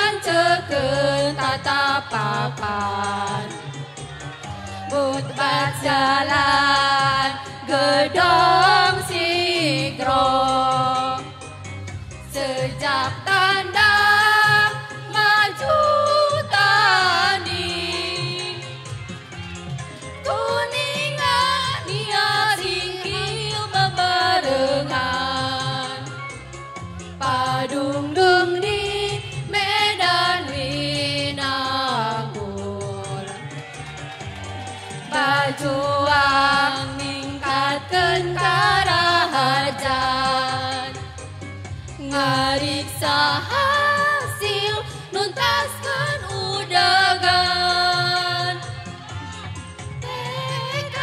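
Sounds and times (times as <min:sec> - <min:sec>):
women's choir singing: 0:00.0 - 0:03.6, 0:04.9 - 0:11.2, 0:12.3 - 0:18.7, 0:20.2 - 0:26.0, 0:27.2 - 0:33.3, 0:35.0 - 0:40.9, 0:42.1 - 0:48.8, 0:50.0 - 0:51.0.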